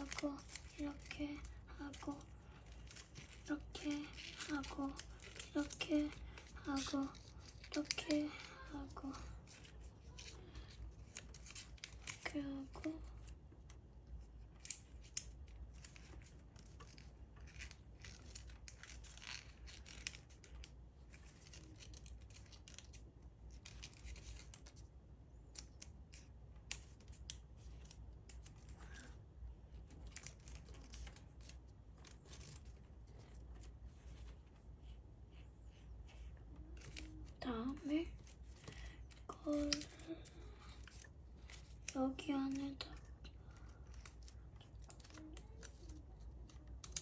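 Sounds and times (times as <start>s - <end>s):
paper crinkling and rustling: 0.0s - 47.0s.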